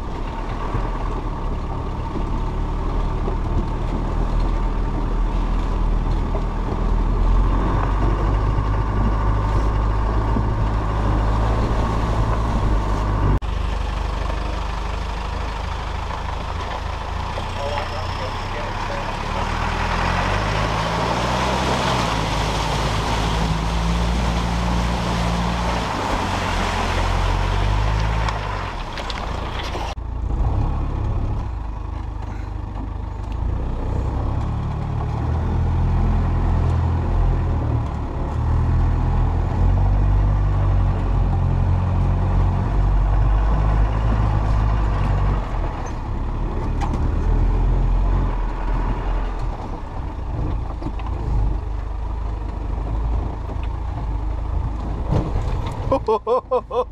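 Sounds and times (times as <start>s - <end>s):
diesel engine labouring: 0.0s - 56.9s.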